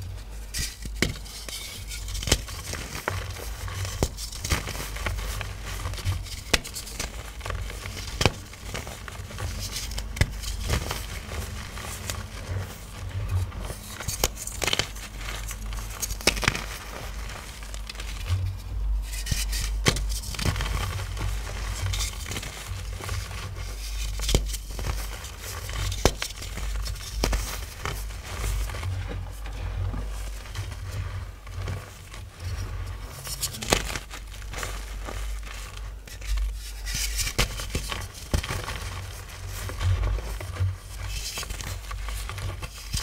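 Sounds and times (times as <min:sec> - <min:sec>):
chalk crushing and crumbling: 0:00.0 - 0:43.0.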